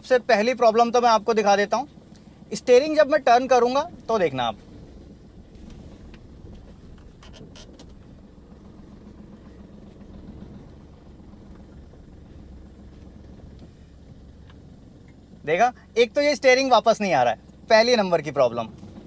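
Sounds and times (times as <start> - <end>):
car driving heard from inside: 0.0 - 19.0.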